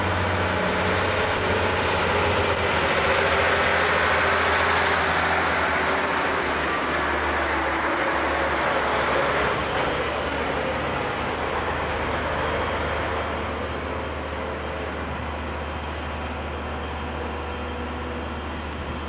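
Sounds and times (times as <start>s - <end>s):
truck driving past: 0.0s - 19.0s.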